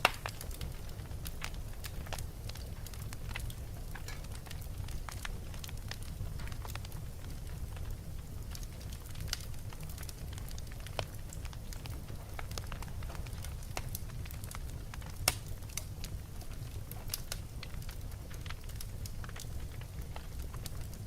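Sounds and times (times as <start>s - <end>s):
fire rumbling: 0.0s - 21.0s
wood fire crackling and popping: 0.0s - 21.0s.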